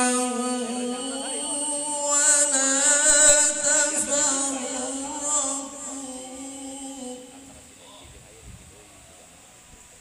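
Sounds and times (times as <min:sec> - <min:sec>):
man reciting melodically over loudspeakers: 0:00.0 - 0:08.2.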